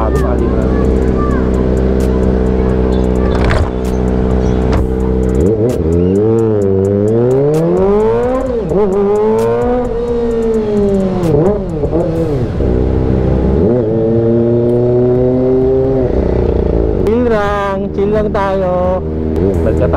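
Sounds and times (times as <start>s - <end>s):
throttle blips on downshifts: 0.0s - 17.2s
motorcycle engine revving: 0.0s - 19.9s.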